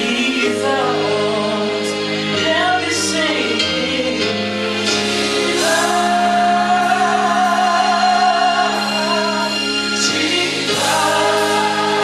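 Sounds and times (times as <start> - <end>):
gospel singing: 0.0 - 12.0
sustained instrumental chords: 0.0 - 12.0.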